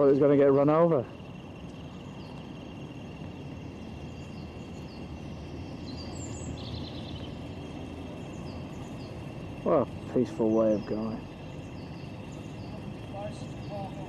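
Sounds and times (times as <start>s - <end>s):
boat engine running low: 0.0s - 14.0s
small birds chirping: 0.0s - 14.0s.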